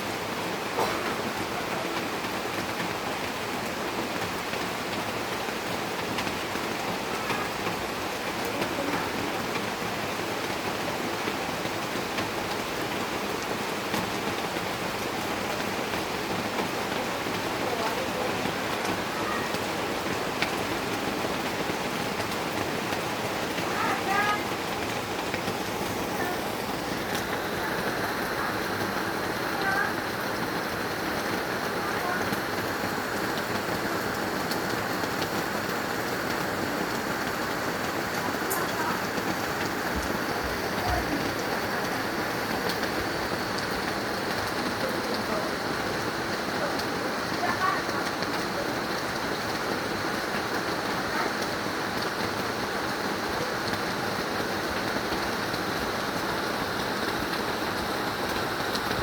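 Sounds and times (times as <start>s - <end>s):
heavy rain falling: 0.0s - 59.0s
raindrops striking a surface: 0.0s - 59.0s.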